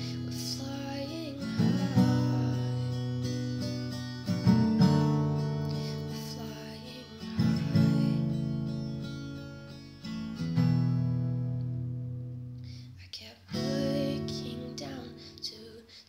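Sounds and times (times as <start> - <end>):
acoustic guitar strumming chords: 0.0 - 12.8, 13.5 - 15.7.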